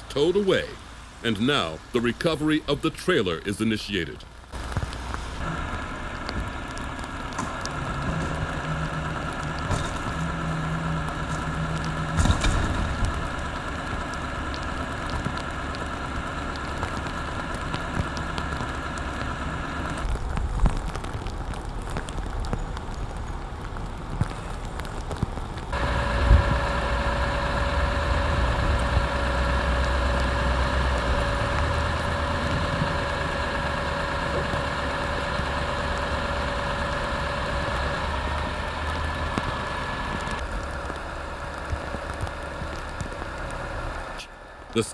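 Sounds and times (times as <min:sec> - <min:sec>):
diesel truck engine idling: 0:00.0 - 0:20.1, 0:25.7 - 0:44.9
steady whine: 0:00.0 - 0:20.1, 0:25.7 - 0:44.9.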